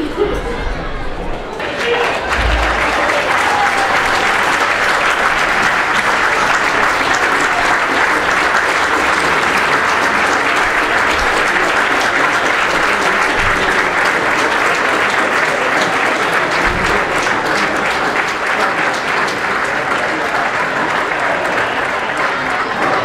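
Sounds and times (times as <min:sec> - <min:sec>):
crowd applauding: 0:01.6 - 0:23.0.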